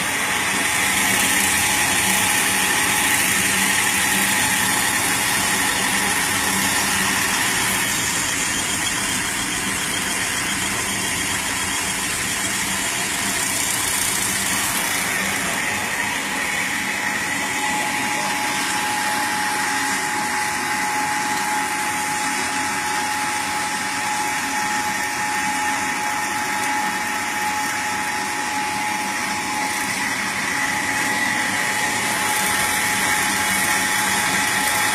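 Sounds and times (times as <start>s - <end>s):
machine drone with high whine: 0.0s - 34.9s.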